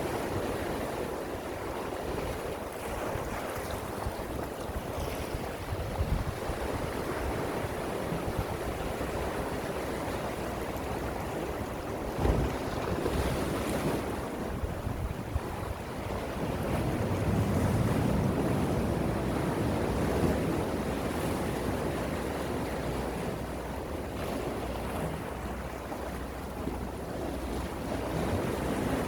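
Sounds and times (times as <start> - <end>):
sea waves washing on shore: 0.0 - 29.0.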